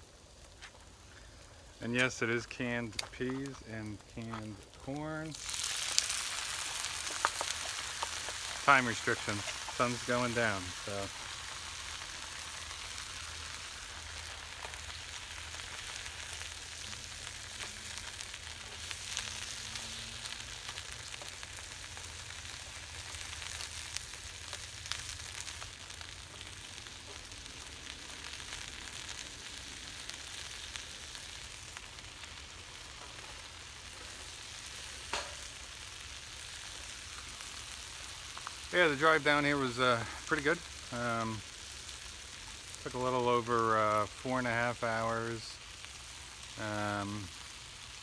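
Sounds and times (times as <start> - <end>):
vegetables sizzling in a frying pan: 0.0 - 48.0.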